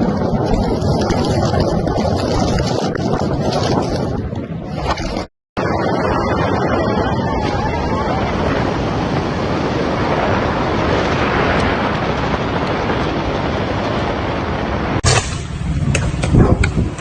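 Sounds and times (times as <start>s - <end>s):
wind battering microphone: 0.0s - 17.0s.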